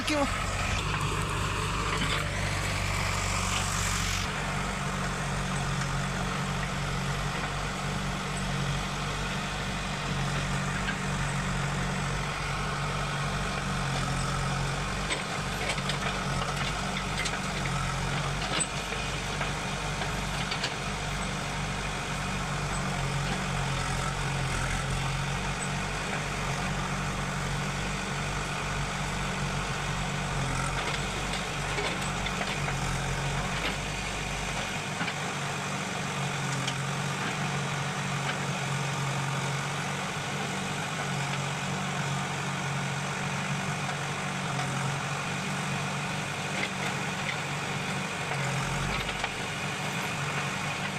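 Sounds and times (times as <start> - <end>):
diesel engines working: 0.0 - 50.9.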